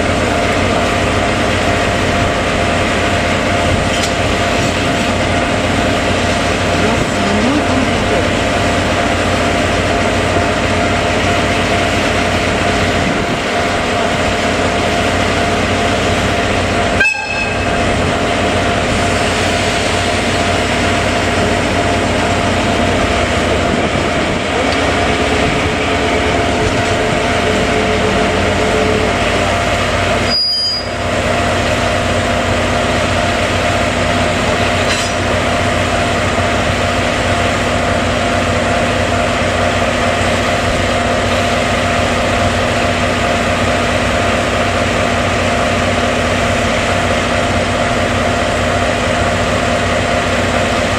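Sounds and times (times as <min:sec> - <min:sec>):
diesel locomotive engine running: 0:00.0 - 0:50.9.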